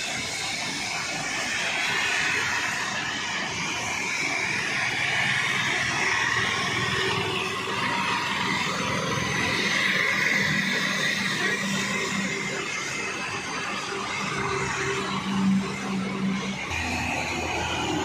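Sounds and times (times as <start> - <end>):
car tyres swishing through water: 0.0 - 18.0
heavy rain pouring: 0.0 - 18.0.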